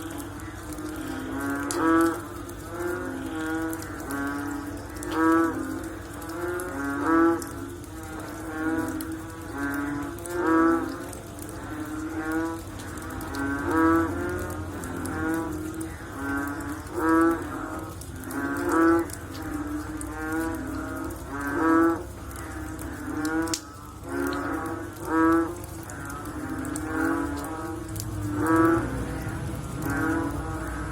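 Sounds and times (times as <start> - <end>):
fainter frog calls: 0.0 - 30.9
frog low pitched call: 0.0 - 30.9.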